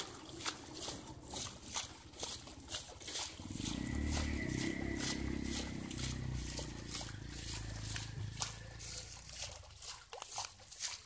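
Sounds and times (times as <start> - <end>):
low motor hum: 0.0 - 10.0
hands splashing in mud and water: 0.0 - 11.0.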